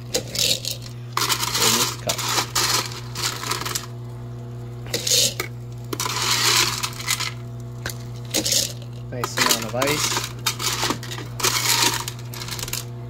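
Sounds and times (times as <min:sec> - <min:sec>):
ice maker motor hum: 0:00.0 - 0:13.0
ice nuggets clattering: 0:00.1 - 0:03.9, 0:04.9 - 0:12.9.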